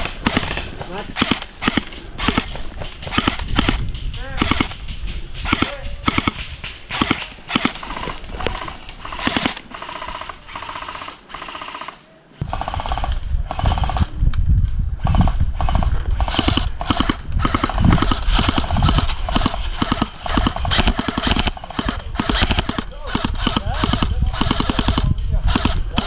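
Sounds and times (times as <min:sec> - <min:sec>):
airsoft gunfire bursts: 0:00.0 - 0:03.8, 0:04.4 - 0:04.8, 0:05.4 - 0:13.7, 0:15.1 - 0:26.0.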